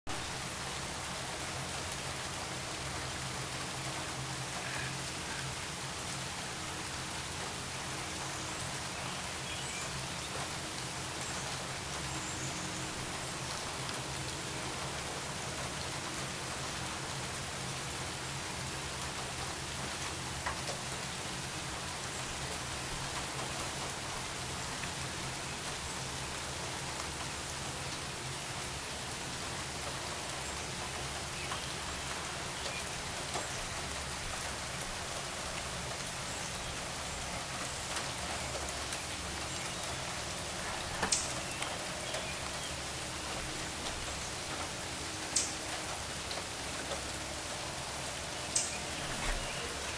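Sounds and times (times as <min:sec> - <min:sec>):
rain falling on pooled water: 0:00.1 - 0:49.9.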